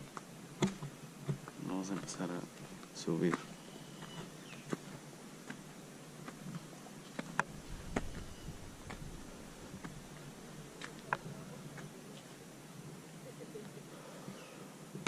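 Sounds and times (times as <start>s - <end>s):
footsteps on stone and gravel: 0.0s - 12.4s
low steady background hum: 0.0s - 15.0s.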